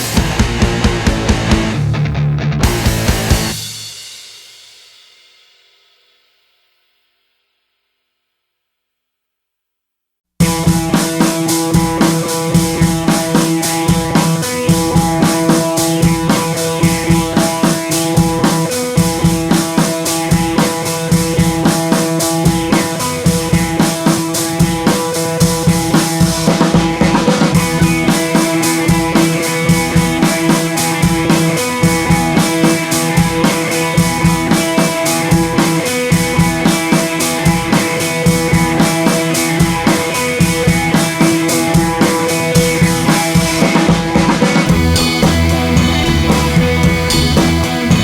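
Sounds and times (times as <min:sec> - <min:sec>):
music with drum beat: 0:00.0 - 0:06.1, 0:10.4 - 0:48.0.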